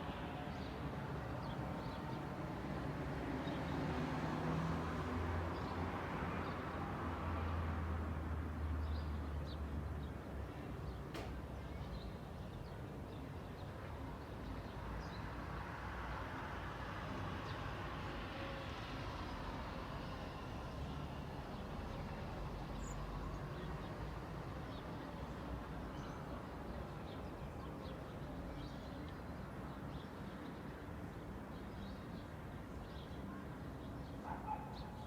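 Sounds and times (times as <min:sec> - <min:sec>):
distant road traffic hum: 0:00.0 - 0:35.0.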